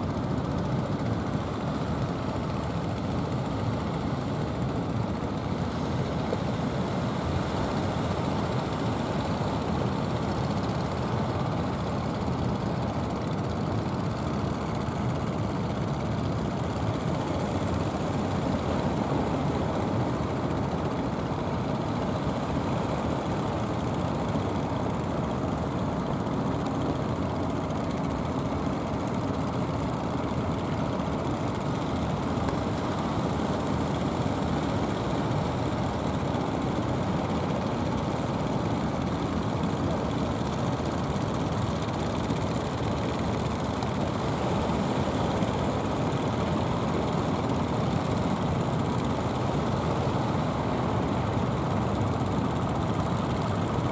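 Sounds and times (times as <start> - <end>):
boat engines: 0.1 - 53.9
waves: 4.0 - 12.2, 13.9 - 53.9.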